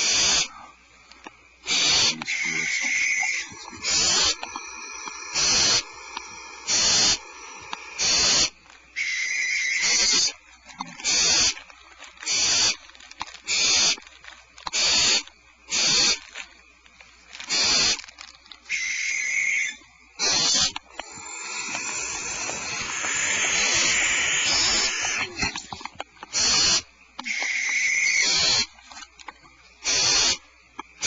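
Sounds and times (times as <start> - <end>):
barn owls hissing: 0.0 - 16.4, 17.3 - 29.1, 29.8 - 31.0.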